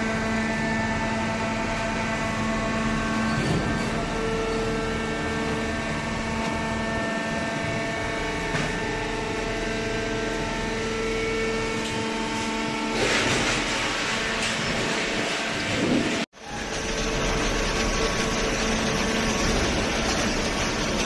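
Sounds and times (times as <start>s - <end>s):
baler machine humming: 0.0s - 21.0s.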